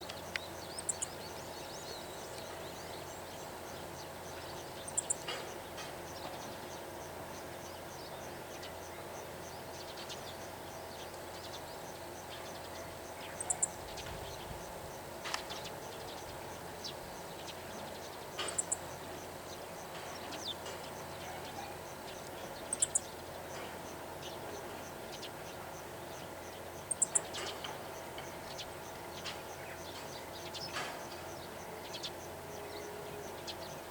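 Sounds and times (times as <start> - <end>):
steady background hum: 0.0 - 33.9.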